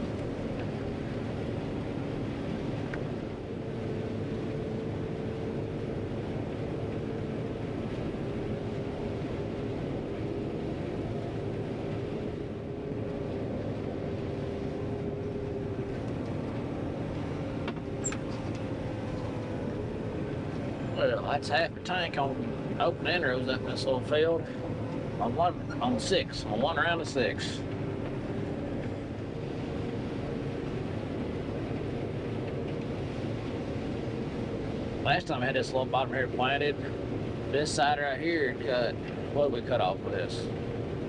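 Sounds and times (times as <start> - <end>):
combine harvester engine drone: 0.0 - 41.0
faint steady hums: 0.0 - 41.0.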